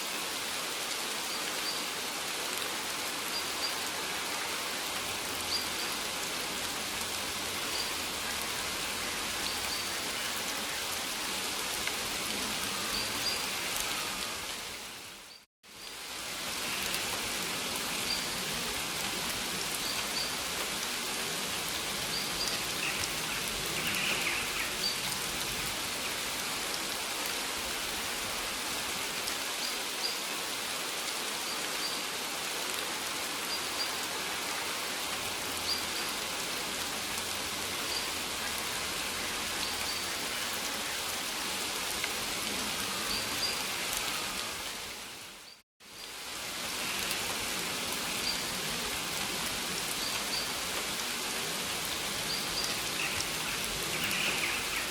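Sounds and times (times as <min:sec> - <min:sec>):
rain falling on foliage: 0:00.0 - 0:54.9.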